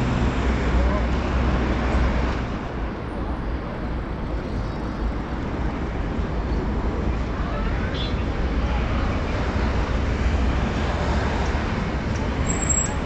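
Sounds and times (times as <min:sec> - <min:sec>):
traffic hum of cars and buses: 0:00.0 - 0:13.0.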